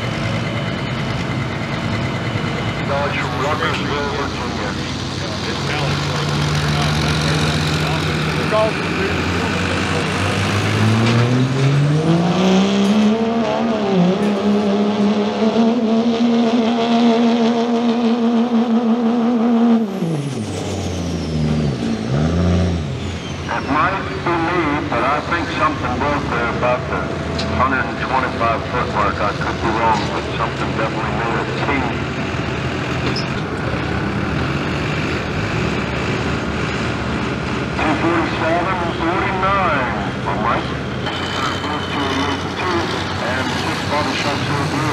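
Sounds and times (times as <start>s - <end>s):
diesel engine at high revs: 0.0s - 44.9s
tires spinning on dirt: 0.0s - 44.9s.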